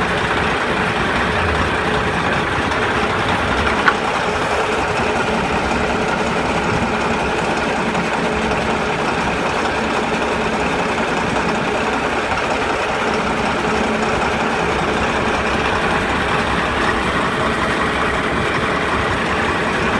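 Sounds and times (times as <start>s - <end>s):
bulldozer diesel engine running: 0.0s - 19.9s.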